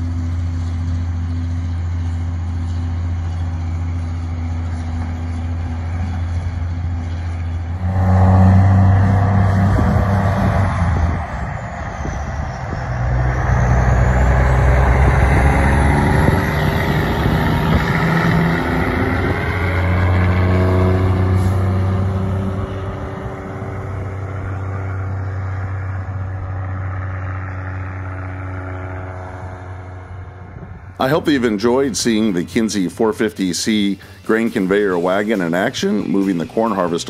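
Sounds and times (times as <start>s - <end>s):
diesel truck accelerating: 0.0s - 37.0s.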